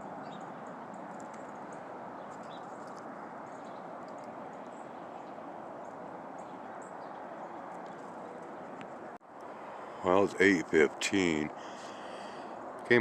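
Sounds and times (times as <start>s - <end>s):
outdoor background noise: 0.0s - 13.0s
songbirds chirping: 0.0s - 13.0s.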